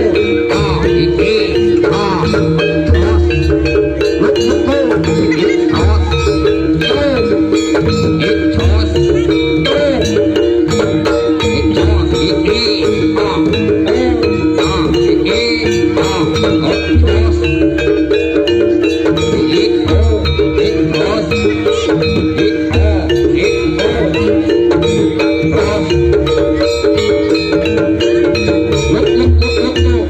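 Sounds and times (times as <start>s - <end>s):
gamelan percussion ensemble: 0.0s - 30.0s.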